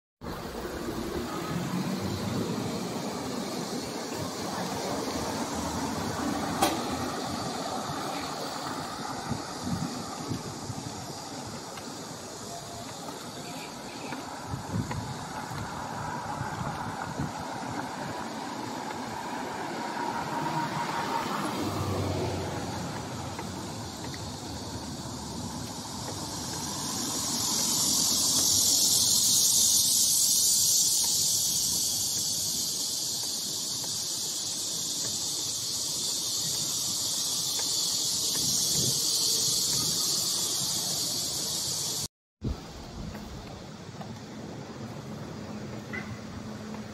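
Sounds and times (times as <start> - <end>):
cicadas buzzing: 0.2 - 46.9
road traffic noise: 0.2 - 46.9.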